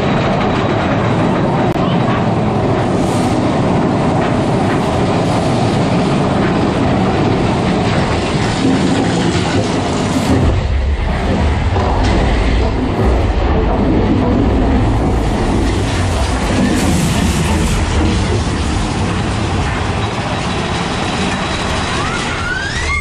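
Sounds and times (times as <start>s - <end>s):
heavy low rumble: 0.0s - 22.4s
coaster cars rattling on track: 0.0s - 23.0s.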